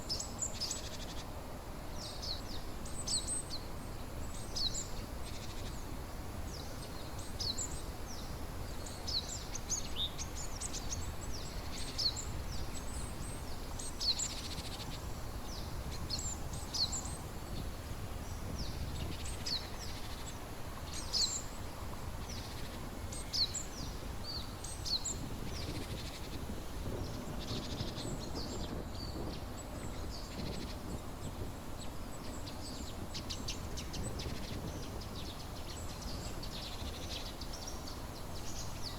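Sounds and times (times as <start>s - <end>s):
small birds chirping: 1.9s - 38.9s.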